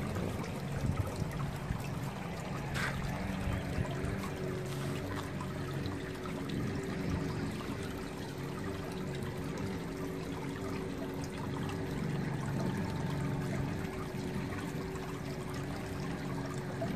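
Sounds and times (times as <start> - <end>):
water pouring and trickling: 0.0 - 16.9.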